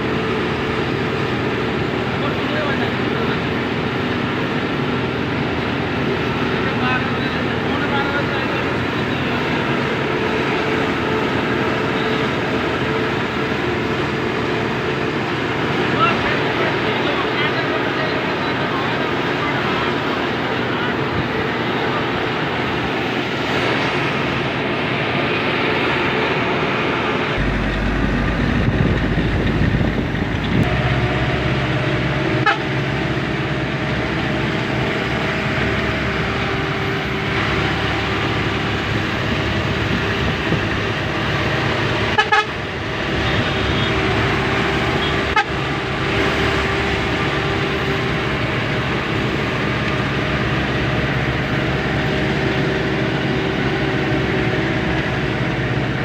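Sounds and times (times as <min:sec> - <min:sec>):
road noise: 0:00.0 - 0:56.0
truck engine rumbling: 0:00.0 - 0:56.0.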